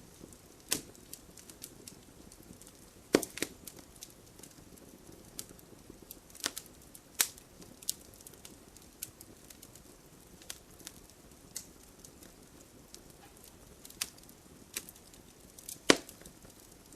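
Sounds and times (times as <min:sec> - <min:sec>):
wood fire crackling and popping: 0:00.0 - 0:16.9.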